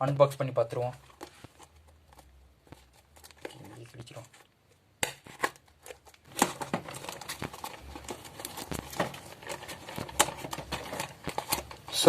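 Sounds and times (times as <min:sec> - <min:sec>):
packaging crinkling and rustling: 0:00.2 - 0:12.0.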